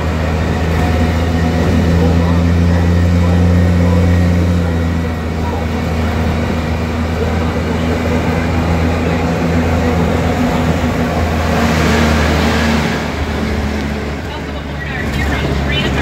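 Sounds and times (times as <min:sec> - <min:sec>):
engine drone: 0:00.0 - 0:16.0
road noise: 0:00.0 - 0:16.0
rushing noise: 0:00.0 - 0:16.0.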